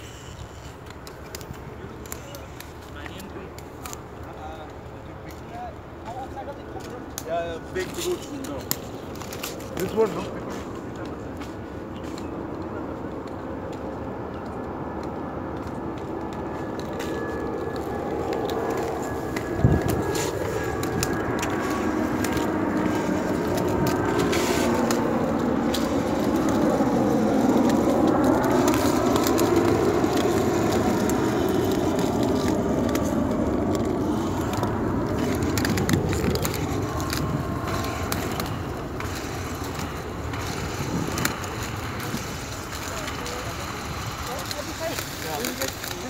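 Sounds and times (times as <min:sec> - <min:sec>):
skate wheels rolling on pavement: 0:00.0 - 0:46.0.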